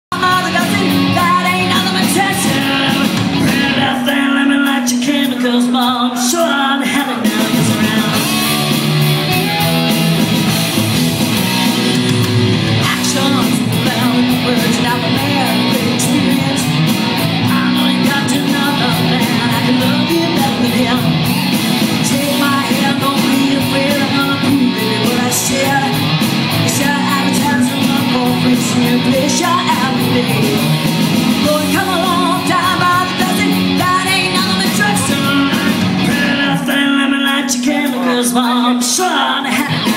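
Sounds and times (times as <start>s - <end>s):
person singing: 0.1s - 8.8s, 11.8s - 39.9s
electric guitar: 0.1s - 39.9s
live band music: 0.1s - 39.9s.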